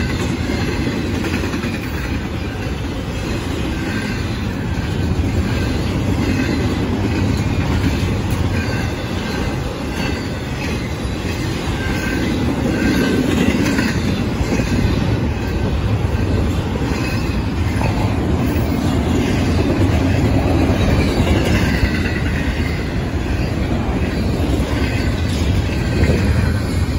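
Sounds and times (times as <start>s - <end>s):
train cars clattering: 0.0s - 26.9s
train wheels on rails: 0.0s - 26.9s.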